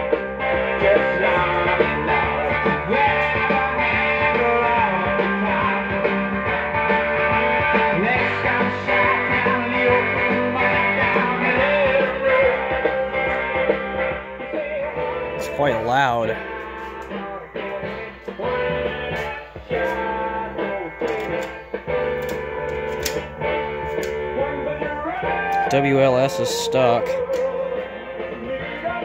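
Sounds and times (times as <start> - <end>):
rock music on old radio: 0.0 - 29.0.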